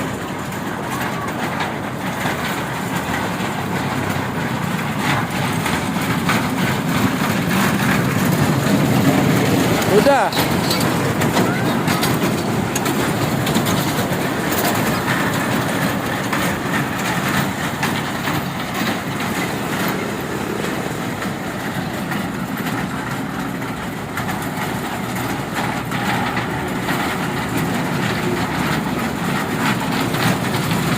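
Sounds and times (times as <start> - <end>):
train rumbling on rails: 0.0 - 30.9
wheels clicking on track: 0.0 - 30.9.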